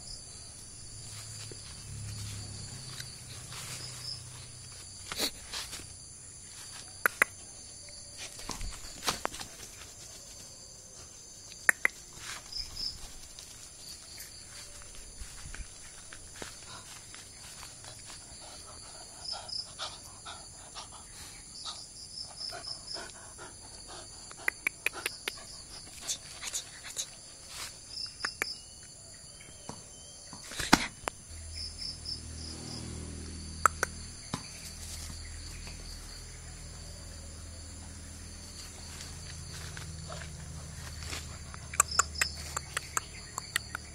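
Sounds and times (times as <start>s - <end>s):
insects chirping in trills: 0.0s - 43.9s.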